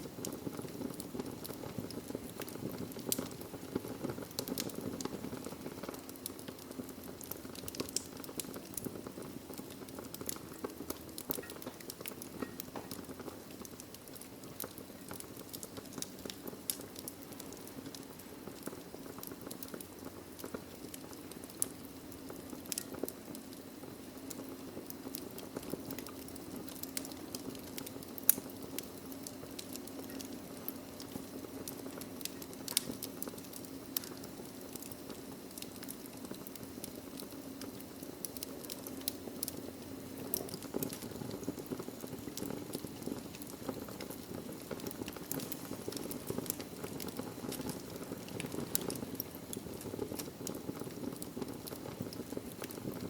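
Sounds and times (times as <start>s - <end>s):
fire hissing: 0.0s - 53.0s
logs crackling and popping: 0.0s - 53.0s.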